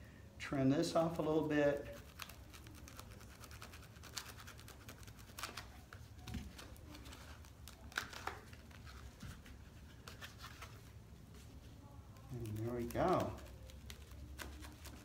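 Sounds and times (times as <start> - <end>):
faint scratching of plastic: 1.7 - 15.0.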